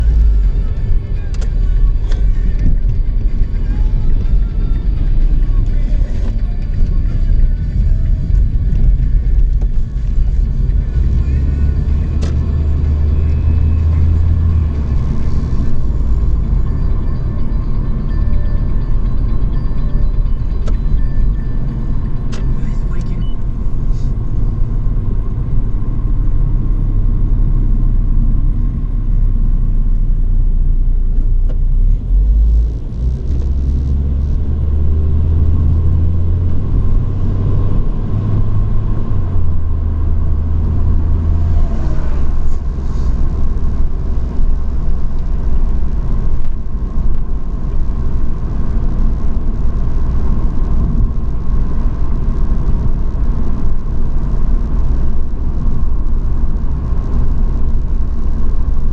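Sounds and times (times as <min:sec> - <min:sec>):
road rumble: 0:00.0 - 0:58.9
truck engine droning: 0:00.0 - 0:58.9.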